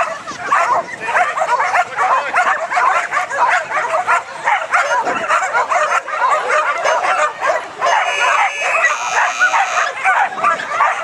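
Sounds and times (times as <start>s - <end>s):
many dogs barking and yelping: 0.0s - 11.0s.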